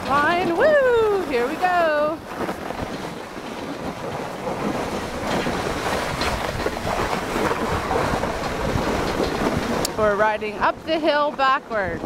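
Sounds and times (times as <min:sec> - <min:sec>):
snow tube sliding over snow: 0:00.0 - 0:12.0
wind on microphone: 0:00.0 - 0:12.0.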